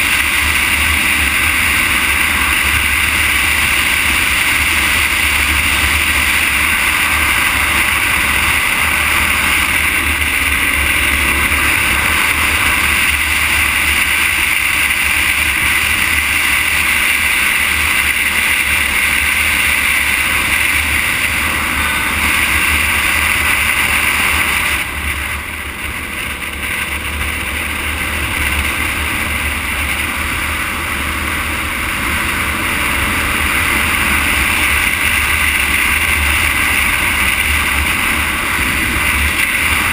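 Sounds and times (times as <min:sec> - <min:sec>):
tyre noise on asphalt: 0:00.0 - 0:39.9.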